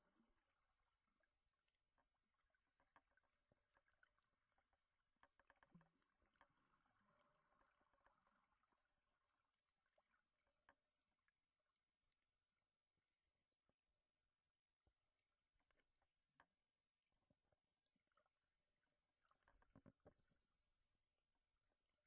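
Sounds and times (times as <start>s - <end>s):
faint underwater clicks: 0.0s - 22.0s.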